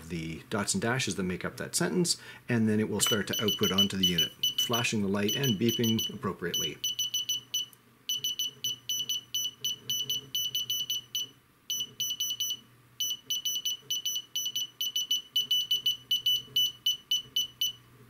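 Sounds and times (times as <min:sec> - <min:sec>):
buzzer beeping morse code: 0:03.0 - 0:17.8.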